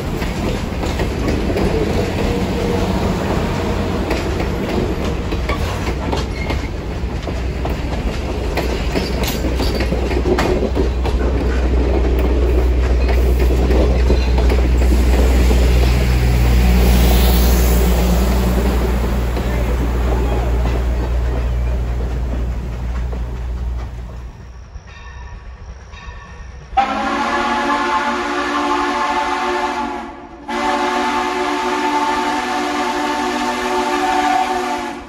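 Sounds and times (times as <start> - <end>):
train rolling along track: 0.0 - 35.0.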